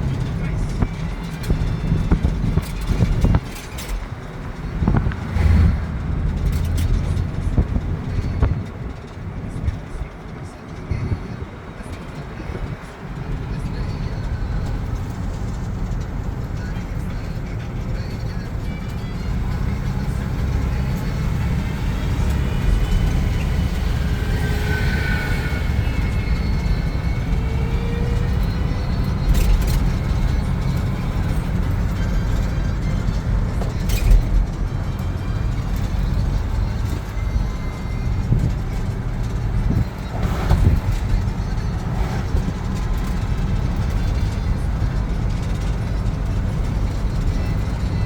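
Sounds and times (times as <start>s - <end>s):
vehicle rumbling: 0.0s - 48.0s.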